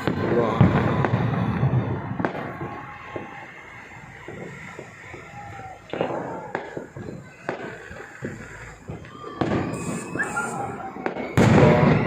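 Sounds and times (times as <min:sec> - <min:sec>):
fireworks bangs: 0:00.0 - 0:12.0
fireworks crackling: 0:00.0 - 0:12.0
fireworks whistles: 0:00.0 - 0:12.0.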